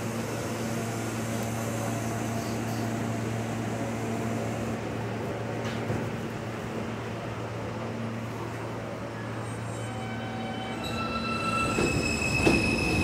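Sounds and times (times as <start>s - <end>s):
subway car air-conditioning hum: 0.0s - 13.0s.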